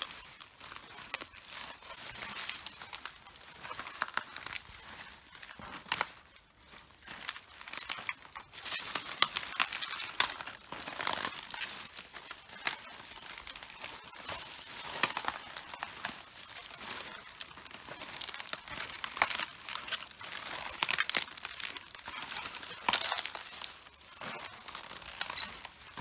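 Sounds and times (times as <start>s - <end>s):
cabbage leaves crushed underfoot: 0.0s - 26.0s.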